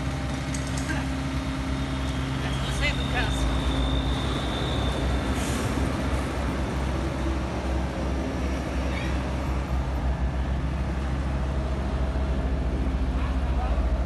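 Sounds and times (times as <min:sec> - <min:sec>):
excavator diesel engine rumbling: 0:00.0 - 0:14.0.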